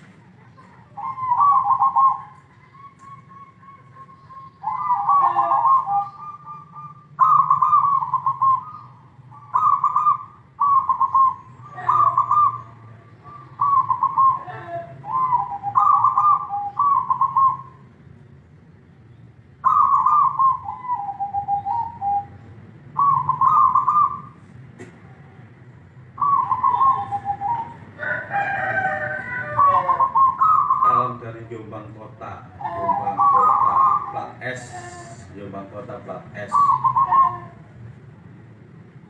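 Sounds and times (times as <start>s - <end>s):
dove cooing: 0.2s - 17.8s, 19.6s - 24.5s, 26.1s - 37.8s.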